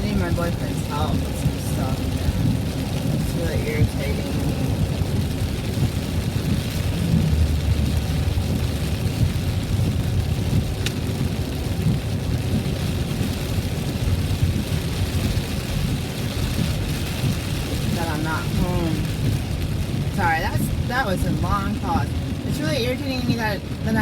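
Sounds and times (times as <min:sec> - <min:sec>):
car road noise from inside: 0:00.0 - 0:24.0
rain on car: 0:00.0 - 0:24.0.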